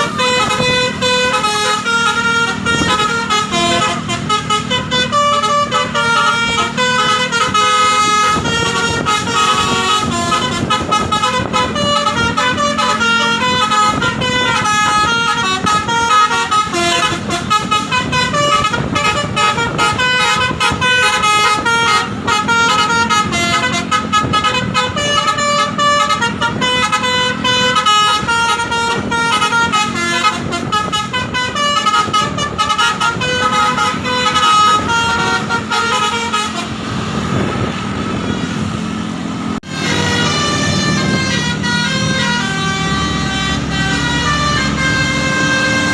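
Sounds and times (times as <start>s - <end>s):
musical air horn playing a tune: 0.0s - 37.3s, 39.6s - 45.9s.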